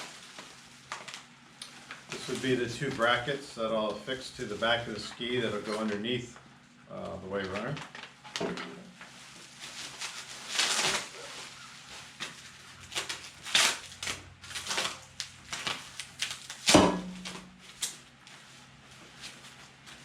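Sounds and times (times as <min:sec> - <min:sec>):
packaging rustling: 0:00.0 - 0:03.4, 0:07.3 - 0:20.0.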